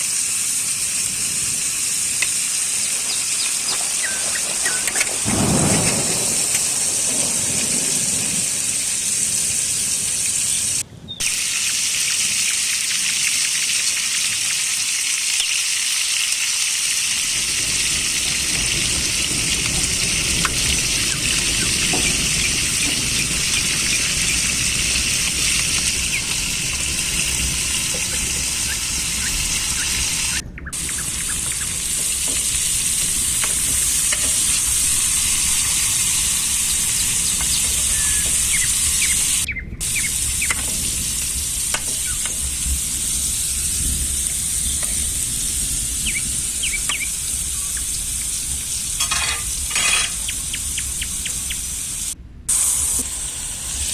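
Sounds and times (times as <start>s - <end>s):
meat and vegetables sizzling: 0.0s - 53.9s.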